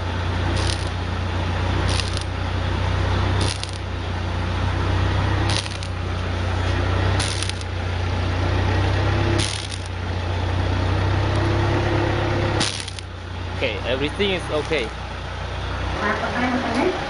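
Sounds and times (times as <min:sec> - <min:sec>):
generator engine humming: 0:00.0 - 0:17.0.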